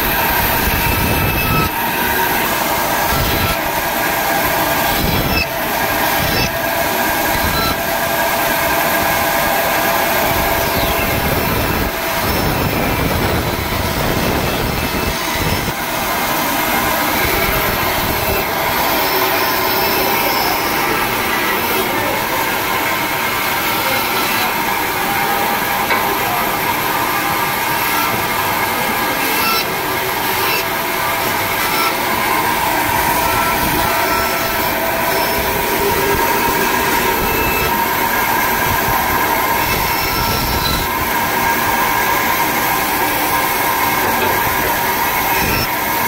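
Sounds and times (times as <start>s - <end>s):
saw blade cutting wood: 0.0s - 45.9s
band saw whine: 0.0s - 46.0s.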